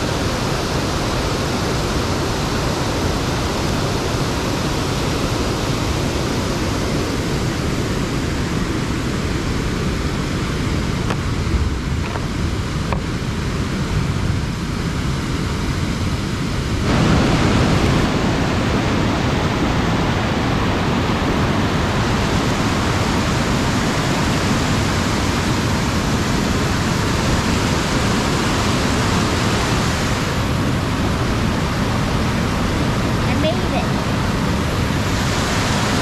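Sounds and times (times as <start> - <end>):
waterfall rushing over rocks: 0.0 - 36.0.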